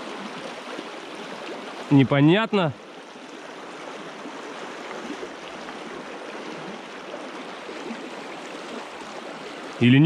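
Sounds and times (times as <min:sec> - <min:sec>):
river flowing: 0:00.0 - 0:10.0.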